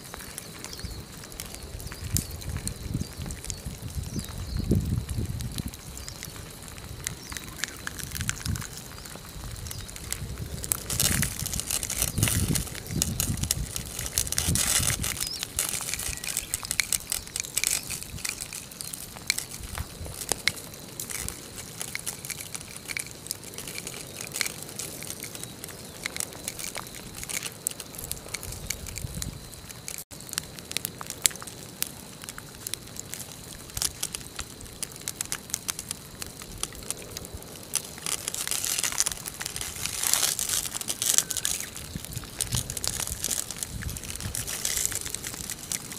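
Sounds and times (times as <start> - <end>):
lava crackling and sizzling: 0.0 - 45.9.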